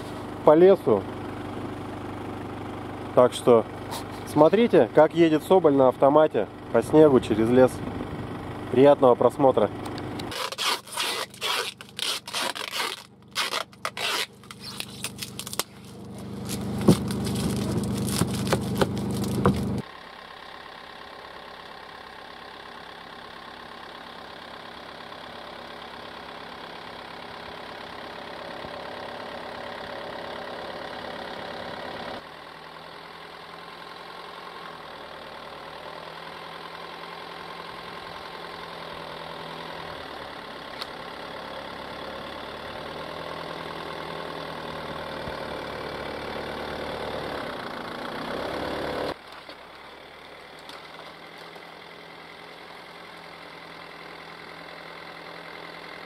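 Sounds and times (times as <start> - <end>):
van engine running: 0.0 - 56.0.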